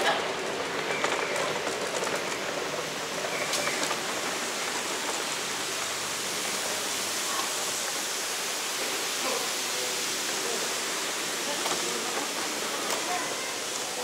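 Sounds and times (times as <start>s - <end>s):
monorail train hissing: 0.0s - 14.0s.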